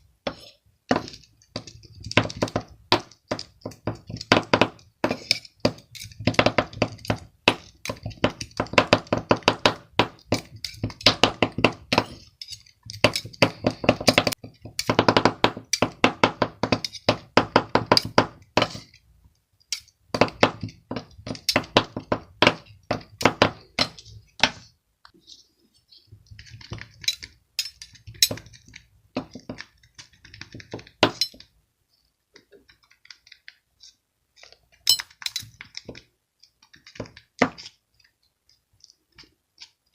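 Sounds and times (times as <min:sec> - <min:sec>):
hard objects clicking and clinking: 0:00.2 - 0:25.3, 0:26.2 - 0:31.5, 0:32.3 - 0:39.9.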